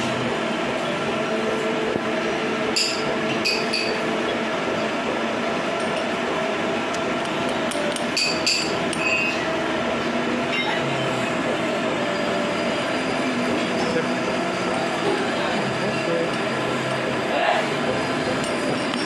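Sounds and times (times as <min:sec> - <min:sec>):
machine humming with held tones: 0:00.0 - 0:19.0.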